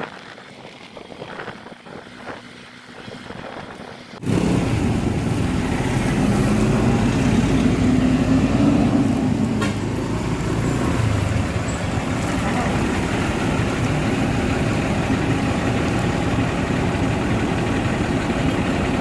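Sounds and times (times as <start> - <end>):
road noise: 0.0 - 19.0
vehicle engine running: 0.0 - 19.0.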